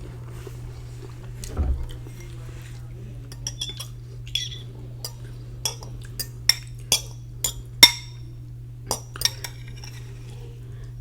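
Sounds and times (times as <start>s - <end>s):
utensil clinking against a dish: 0.4s - 11.0s.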